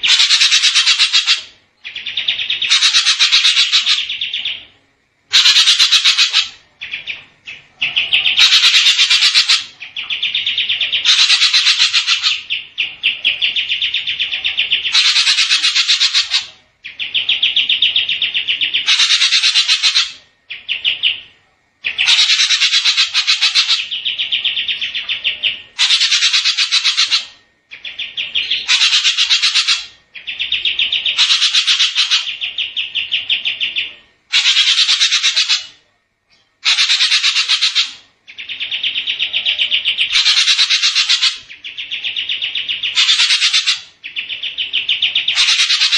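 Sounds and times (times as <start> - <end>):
songbird buzzy trills: 0.0 - 45.9.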